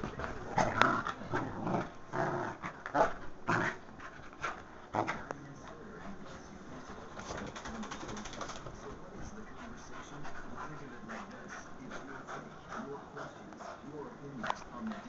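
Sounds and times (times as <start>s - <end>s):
dog vocalizing and snuffling: 0.0s - 15.0s.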